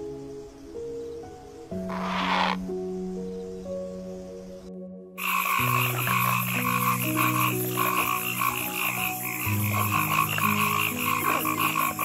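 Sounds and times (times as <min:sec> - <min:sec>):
frogs croaking: 0:00.0 - 0:04.6, 0:05.2 - 0:12.0
soft background music: 0:00.0 - 0:12.0.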